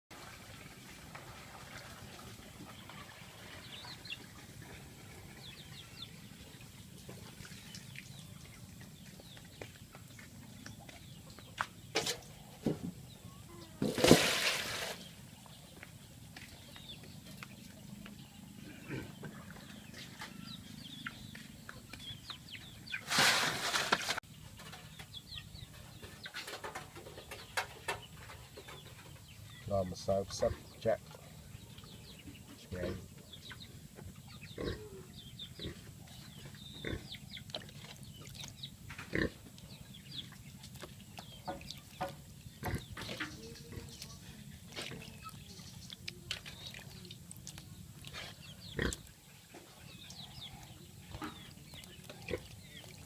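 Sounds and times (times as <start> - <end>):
chickens clucking: 0.8 - 13.9, 15.3 - 53.0
birds chirping: 1.9 - 53.0.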